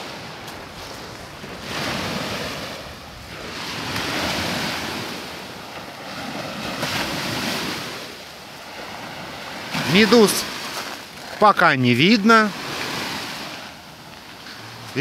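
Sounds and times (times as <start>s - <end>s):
waves washing up a beach: 0.0s - 15.0s.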